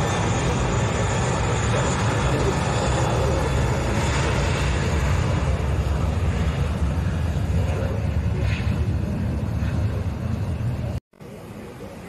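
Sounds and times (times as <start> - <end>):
jet airliner engines roaring: 0.0 - 12.0.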